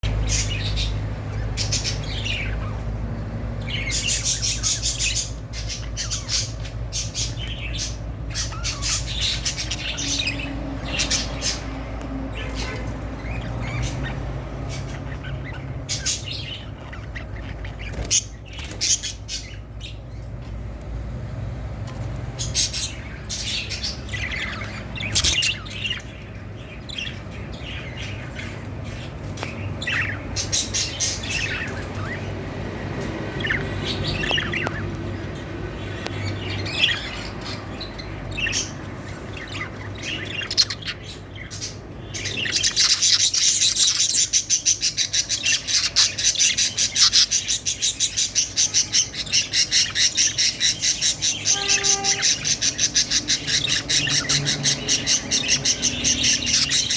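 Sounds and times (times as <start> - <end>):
budgerigars chirping: 0.0 - 20.8, 21.8 - 56.9.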